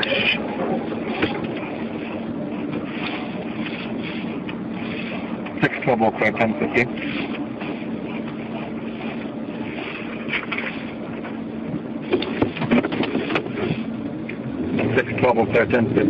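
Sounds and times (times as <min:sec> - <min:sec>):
car engine and road noise: 0:00.0 - 0:16.0
low hum: 0:00.0 - 0:16.0.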